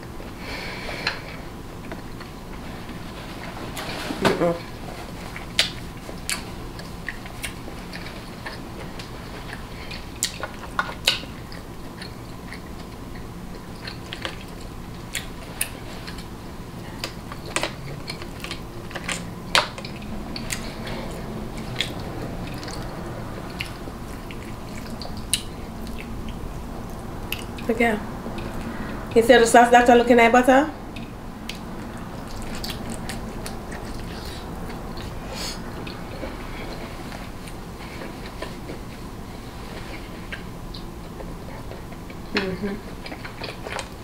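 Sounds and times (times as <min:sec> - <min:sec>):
low steady hum: 0:00.0 - 0:44.0
person chewing food: 0:00.2 - 0:29.2, 0:30.8 - 0:44.0.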